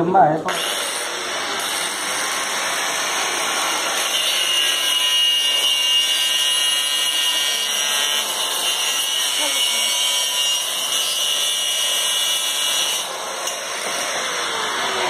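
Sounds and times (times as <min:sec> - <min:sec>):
angle grinder cutting plastic pipe: 0:00.4 - 0:15.0.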